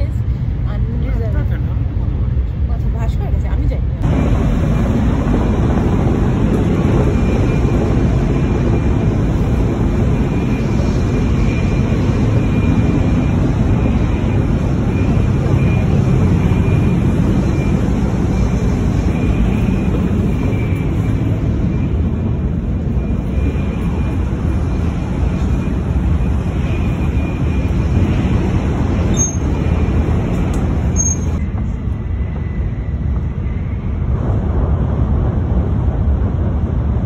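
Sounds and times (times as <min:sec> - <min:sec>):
outdoor street noise: 0:00.0 - 0:37.0
train cabin low rumble: 0:00.0 - 0:37.0.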